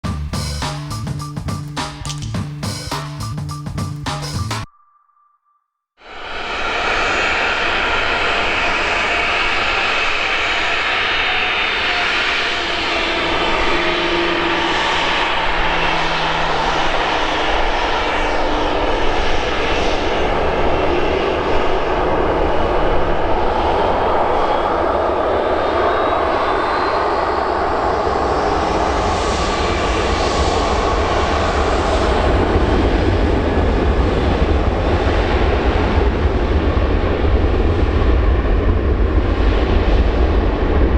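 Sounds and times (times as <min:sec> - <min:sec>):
high engine whine: 0:06.1 - 0:40.9
jet engines at takeoff power: 0:06.1 - 0:40.9
deep rumble: 0:06.2 - 0:40.9.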